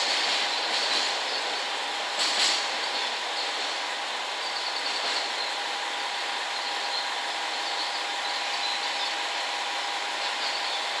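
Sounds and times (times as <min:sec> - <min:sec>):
thin steady whine: 0:00.0 - 0:11.0
train wheels on rails: 0:00.0 - 0:11.0.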